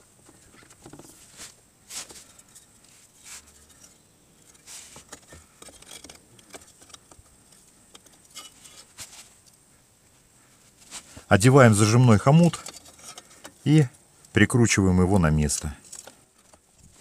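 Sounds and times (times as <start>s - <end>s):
small clicks and rustles: 0.2s - 14.4s, 15.2s - 17.0s.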